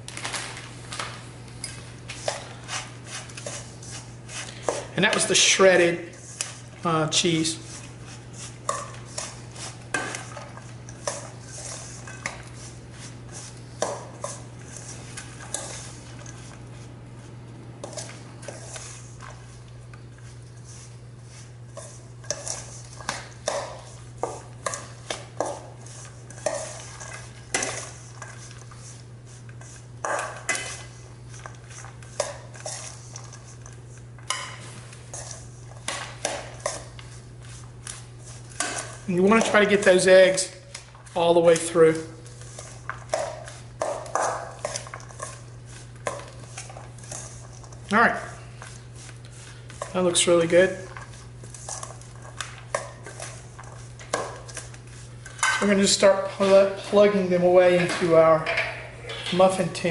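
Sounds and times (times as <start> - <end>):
utensil scraping metal bowl: 2.2 - 16.5, 17.8 - 59.9.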